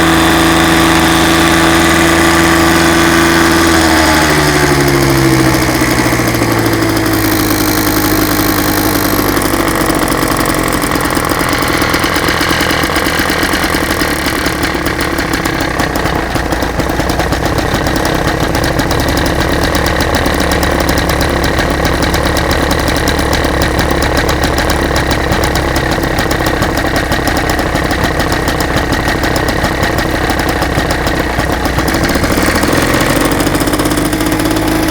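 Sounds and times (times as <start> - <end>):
small two-stroke engine running: 0.0 - 34.9.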